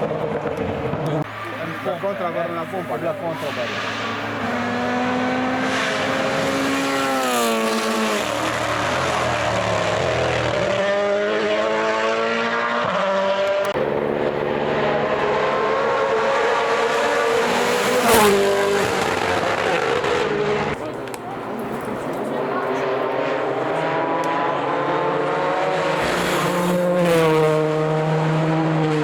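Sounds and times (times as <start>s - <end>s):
rally car engine running hard: 4.0s - 20.8s, 22.2s - 29.0s.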